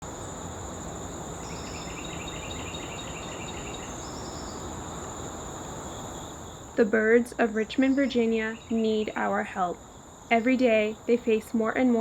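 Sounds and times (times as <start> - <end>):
crickets droning: 0.0 - 12.0
low background hiss: 0.0 - 12.0.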